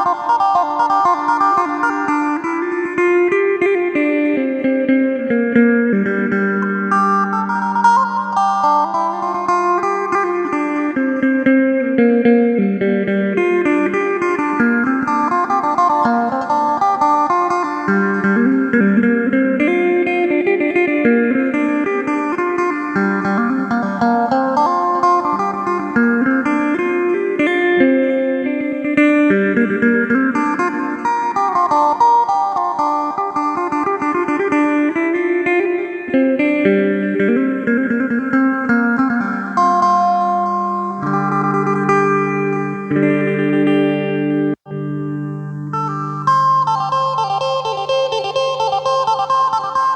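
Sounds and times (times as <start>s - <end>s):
electric lute plucked melody: 0.0s - 49.9s.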